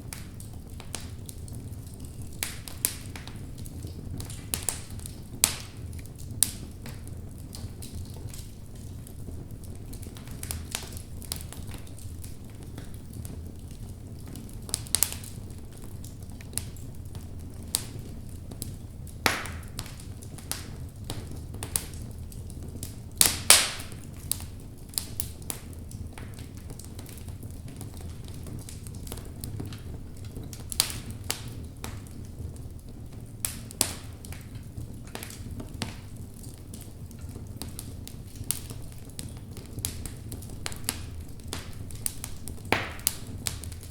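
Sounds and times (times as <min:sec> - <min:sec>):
fire crackling and popping: 0:00.0 - 0:43.9
low rumble of flame: 0:00.0 - 0:43.9.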